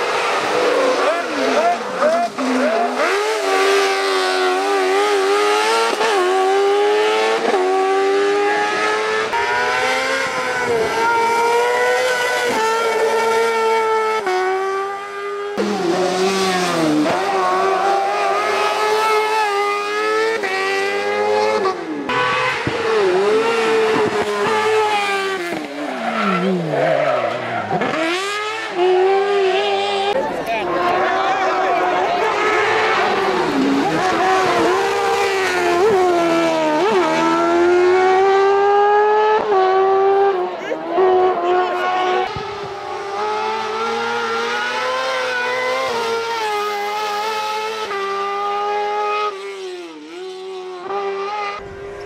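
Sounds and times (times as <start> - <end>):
high-revving motorcycle engines: 0.0 - 52.0.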